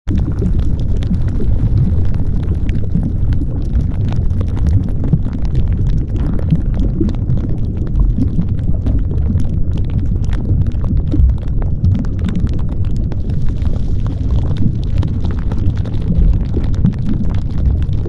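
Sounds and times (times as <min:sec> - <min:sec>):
deep rumbling noise with crackles: 0:00.0 - 0:18.0.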